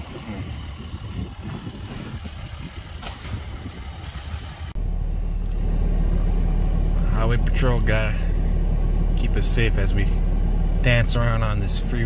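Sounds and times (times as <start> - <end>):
engine rumble inside vehicle cab: 0.0 - 12.0
low outdoor rumble: 0.0 - 12.0.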